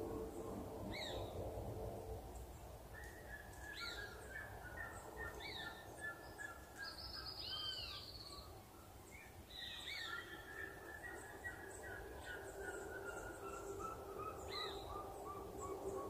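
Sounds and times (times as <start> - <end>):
wild birds singing: 0.0 - 1.6, 2.2 - 16.0.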